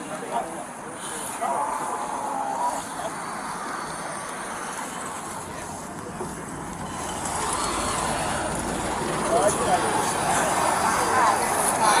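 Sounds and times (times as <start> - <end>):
vehicle rumble with hiss: 0.5 - 12.0.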